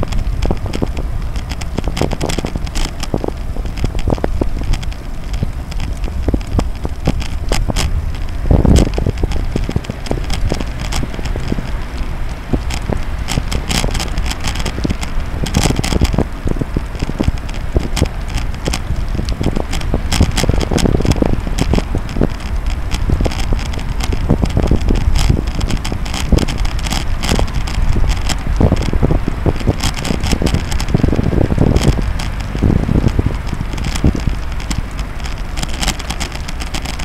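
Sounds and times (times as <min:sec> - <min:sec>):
bike rattling clicks: 0:00.0 - 0:37.0
wind rumbling on microphone: 0:00.0 - 0:37.0.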